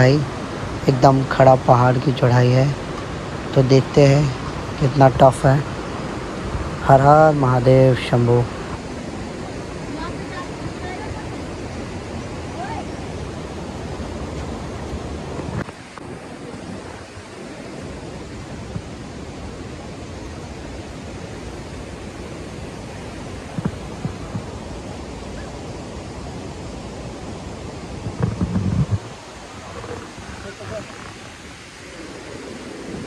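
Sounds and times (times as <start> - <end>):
river water rushing: 0.0 - 33.0
wind on microphone: 0.0 - 33.0.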